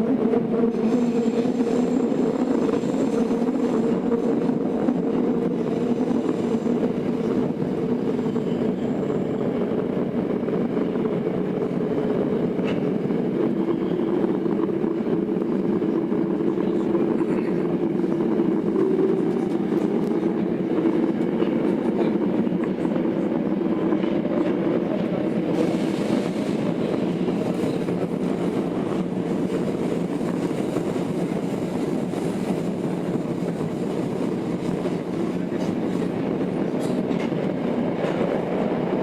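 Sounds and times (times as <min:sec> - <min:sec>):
rumble of wheels on rail: 0:00.0 - 0:39.0.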